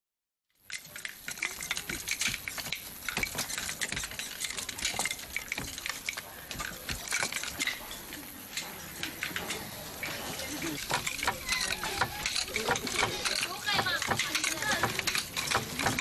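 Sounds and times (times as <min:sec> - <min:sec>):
small hard objects clattering: 0:00.6 - 0:16.0.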